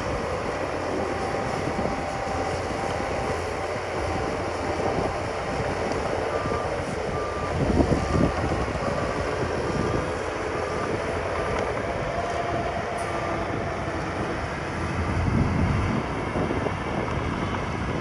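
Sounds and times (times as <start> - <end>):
reversing alarm beeping: 0.0 - 14.9
earthmoving machinery diesel engine: 0.0 - 18.0.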